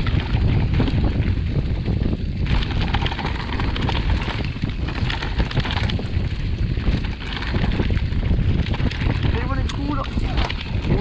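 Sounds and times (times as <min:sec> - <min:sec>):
bike rattling over rocks: 0:00.0 - 0:11.0
bike tyres rolling: 0:00.0 - 0:11.0
wind rushing over microphone: 0:00.0 - 0:11.0.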